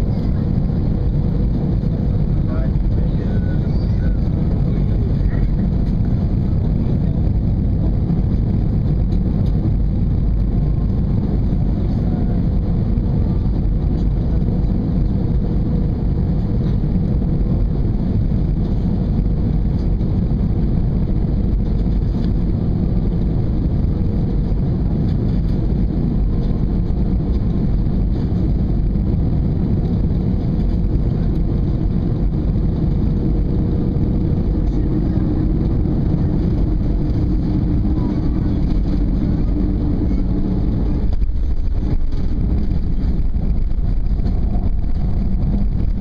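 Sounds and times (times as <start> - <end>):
low rumble of jet engines: 0.0 - 46.0
rushing air: 0.0 - 46.0.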